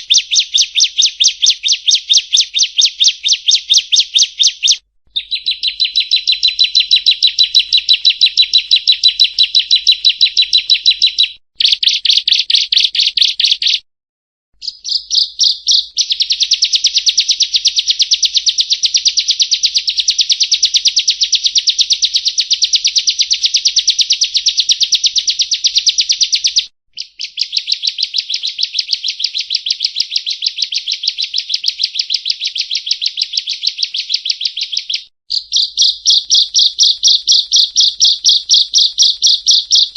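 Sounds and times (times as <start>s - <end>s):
bird singing fast high trills: 0.0s - 13.8s, 14.6s - 21.9s, 24.1s - 39.9s.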